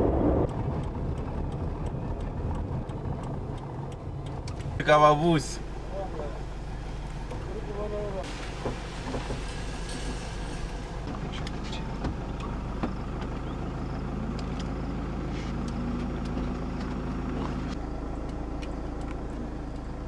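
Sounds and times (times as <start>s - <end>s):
hum: 0.0s - 20.0s
vehicle engine running: 0.0s - 20.0s.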